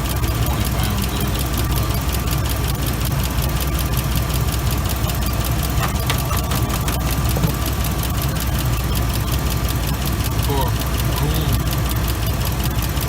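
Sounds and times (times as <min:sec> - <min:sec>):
engine idling: 0:00.0 - 0:13.0
fine ticking: 0:00.0 - 0:13.0
thin steady whine: 0:00.0 - 0:13.0.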